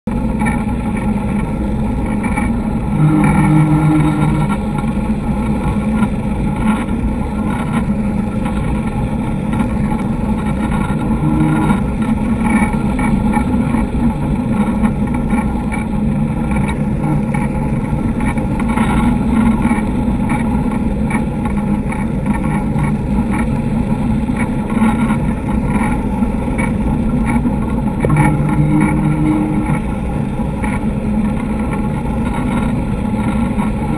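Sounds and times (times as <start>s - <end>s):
boat engines droning: 0.1s - 33.9s.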